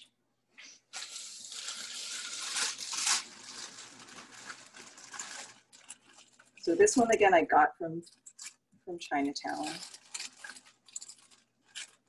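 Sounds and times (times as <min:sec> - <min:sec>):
plastic bag crinkling: 0:00.9 - 0:07.2, 0:08.0 - 0:12.0.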